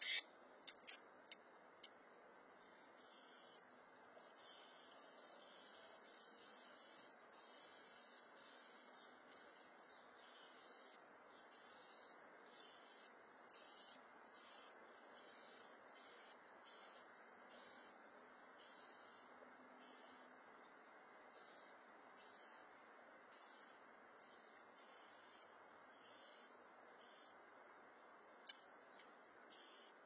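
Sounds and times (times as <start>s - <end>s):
high-pitched insect calls: 0.0s - 27.6s, 28.2s - 30.0s
low steady hiss: 0.0s - 30.0s.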